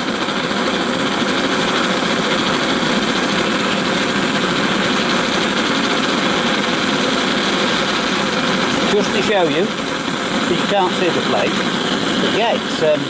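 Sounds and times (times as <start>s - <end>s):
blowlamp flame rushing: 0.0s - 13.0s.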